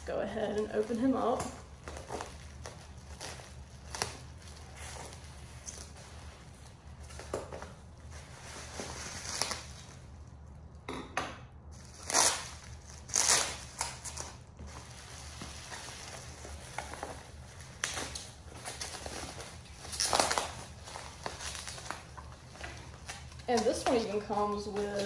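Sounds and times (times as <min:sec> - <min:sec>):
bubble wrap crinkling: 0:00.0 - 0:10.8, 0:11.7 - 0:25.0.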